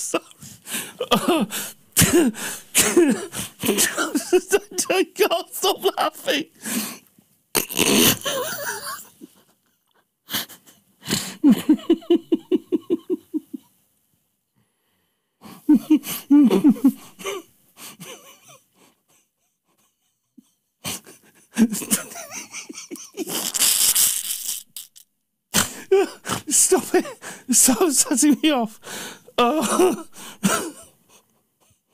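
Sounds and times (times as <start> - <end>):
man laughing uncontrollably: 0.0 - 6.5, 7.9 - 10.6, 11.4 - 13.7, 15.7 - 17.4, 18.0 - 24.6, 25.6 - 28.8, 29.4 - 31.9.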